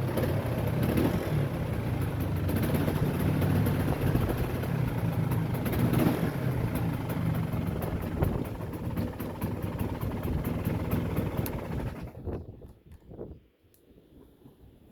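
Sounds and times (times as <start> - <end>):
two-stroke engine running: 0.0 - 12.3.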